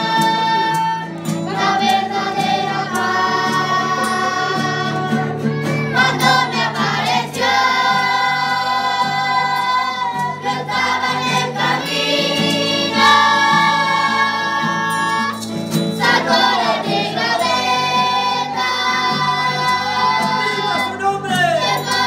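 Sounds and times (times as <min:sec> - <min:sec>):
children's choir singing a hymn: 0:00.0 - 0:22.0.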